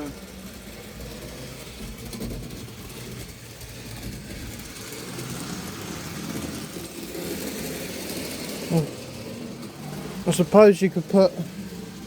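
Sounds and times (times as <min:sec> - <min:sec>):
wheels rolling on rail: 0:00.0 - 0:12.0.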